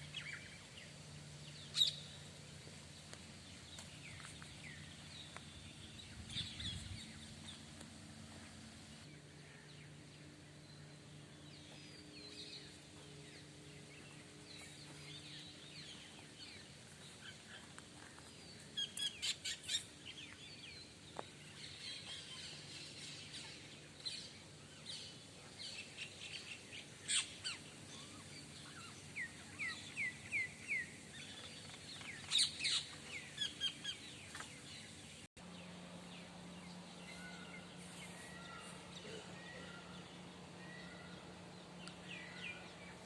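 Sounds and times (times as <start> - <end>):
small birds chirping: 0.0 - 43.0
steady low hum: 0.0 - 43.0.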